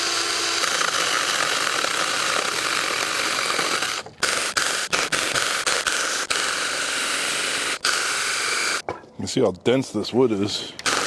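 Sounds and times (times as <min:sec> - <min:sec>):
mini chainsaw cutting log: 0:00.0 - 0:08.8, 0:10.8 - 0:11.0.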